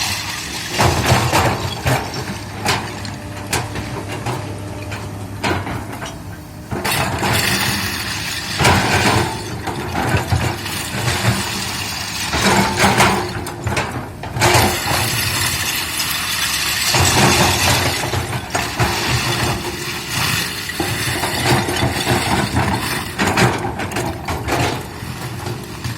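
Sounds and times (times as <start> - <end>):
crunching and clattering: 0.0 - 25.9
excavator diesel engine running: 0.0 - 25.9.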